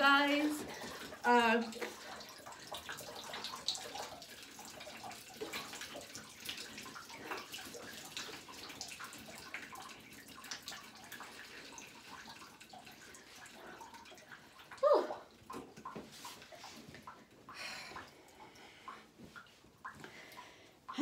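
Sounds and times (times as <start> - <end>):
shower water splashing in tub: 0.0 - 21.0.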